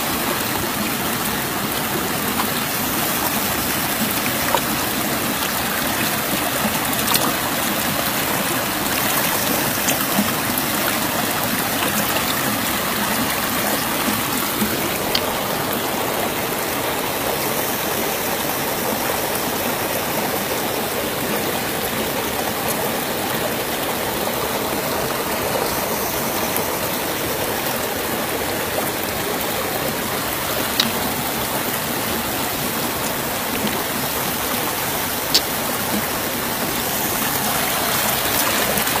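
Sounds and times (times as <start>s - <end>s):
river water rushing over rocks: 0.0s - 39.0s.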